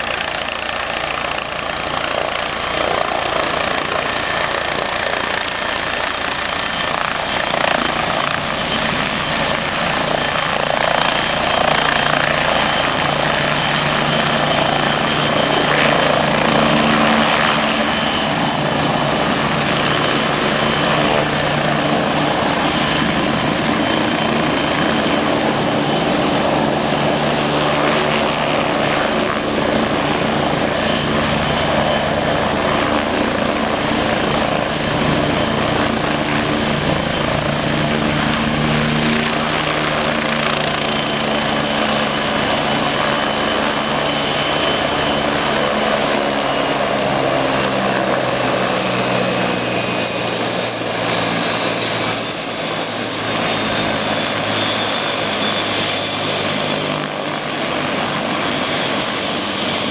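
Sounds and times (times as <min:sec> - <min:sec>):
helicopter rotors turning: 0:00.0 - 0:59.9
high turbine whine: 0:00.0 - 0:59.9.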